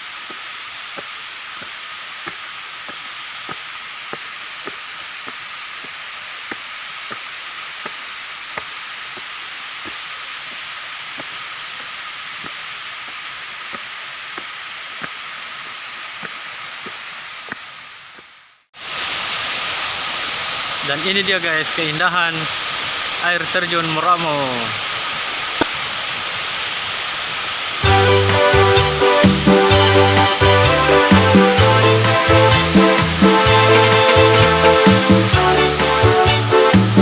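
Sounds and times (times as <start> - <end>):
waterfall rushing: 0.0 - 18.1, 18.8 - 37.0.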